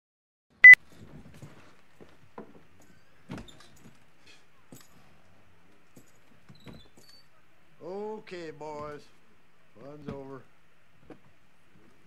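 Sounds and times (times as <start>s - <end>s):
faint knocks and shuffling: 0.8s - 12.0s.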